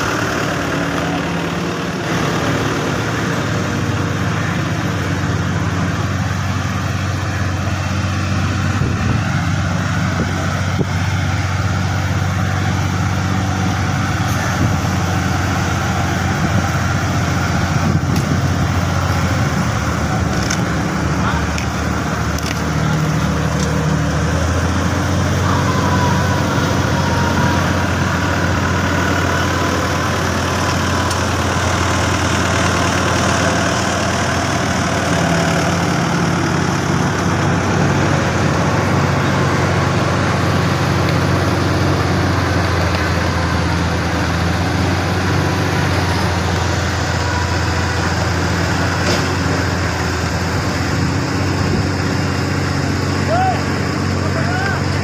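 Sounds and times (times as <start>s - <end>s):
heavy diesel engines droning: 0.0s - 55.0s.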